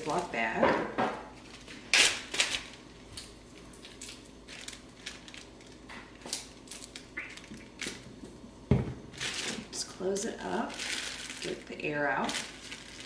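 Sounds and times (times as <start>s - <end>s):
plastic bag crinkling: 1.4s - 8.2s, 9.1s - 13.0s.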